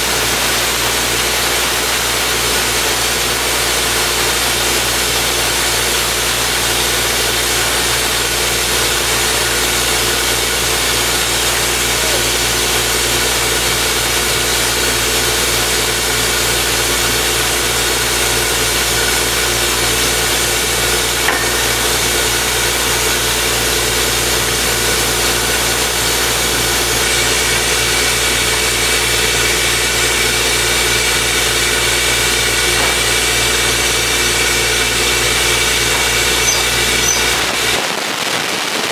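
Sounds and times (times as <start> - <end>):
drilling rig running: 0.0 - 38.0.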